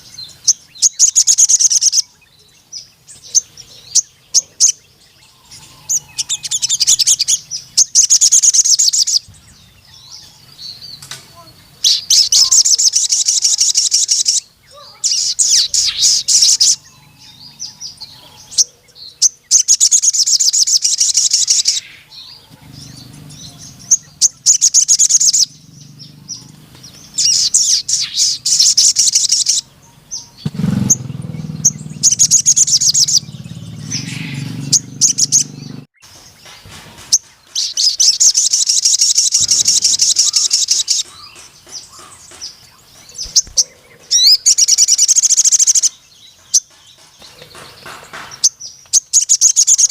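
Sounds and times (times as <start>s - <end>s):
bird singing high trills: 0.0s - 47.3s, 48.1s - 49.9s.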